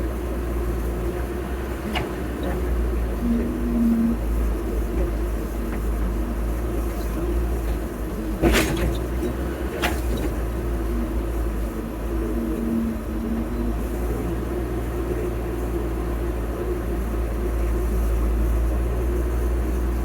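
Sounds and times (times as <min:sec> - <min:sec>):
heavy machine engine rumbling: 0:00.0 - 0:20.0.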